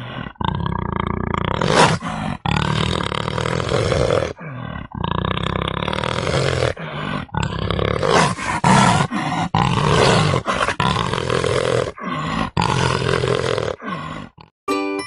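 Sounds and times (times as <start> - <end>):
leopard growling and snarling: 0.0 - 14.5.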